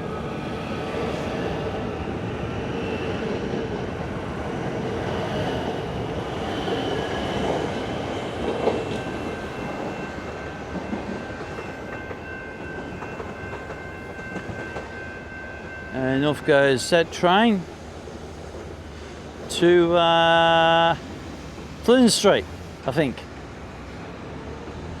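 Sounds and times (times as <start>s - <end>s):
electric train running: 0.0s - 22.8s.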